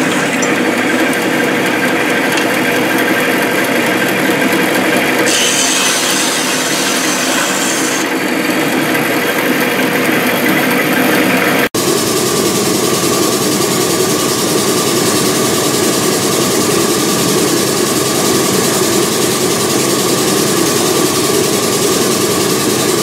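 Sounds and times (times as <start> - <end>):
band saw cutting metal: 0.0 - 23.0
machine hum: 0.0 - 23.0.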